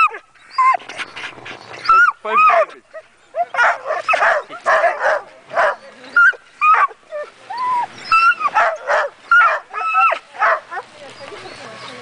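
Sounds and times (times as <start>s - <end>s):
huskies barking and whining: 0.0s - 12.0s.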